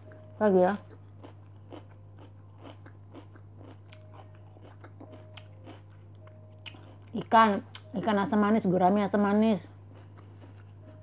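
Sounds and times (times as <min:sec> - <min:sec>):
person chewing food: 0:00.0 - 0:07.9, 0:09.8 - 0:11.0.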